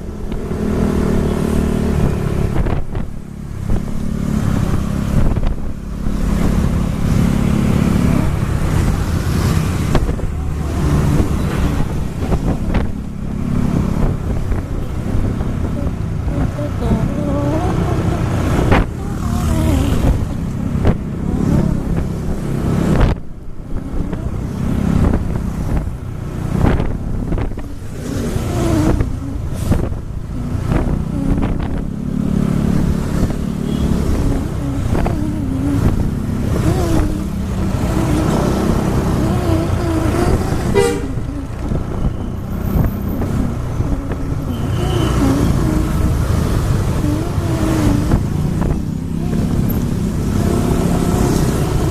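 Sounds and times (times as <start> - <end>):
vehicle engine and road noise: 0.0 - 51.9.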